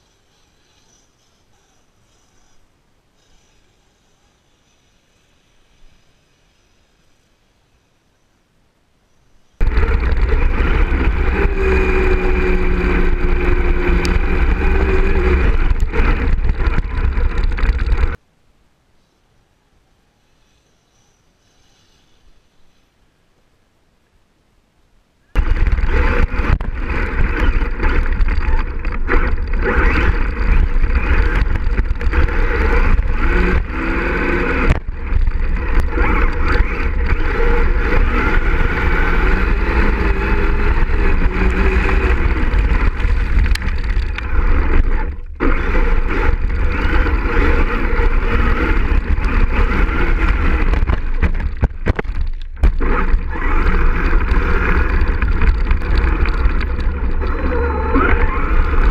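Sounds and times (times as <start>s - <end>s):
rc truck tyres and drivetrain rumble: 0.0s - 8.0s, 9.1s - 18.2s, 25.4s - 58.9s.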